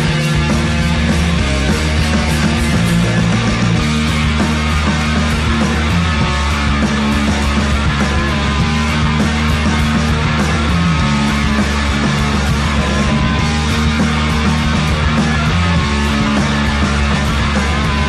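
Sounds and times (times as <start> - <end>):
rock music with guitars: 0.0 - 18.0.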